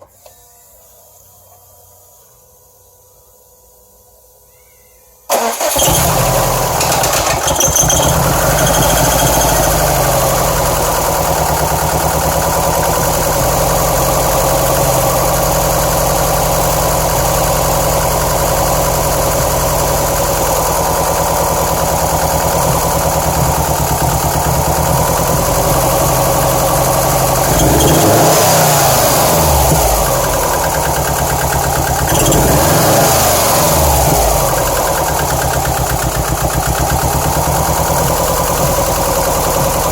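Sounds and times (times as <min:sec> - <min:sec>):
car engine idling roughly: 0:05.3 - 0:39.9
car engine revving: 0:05.3 - 0:39.9.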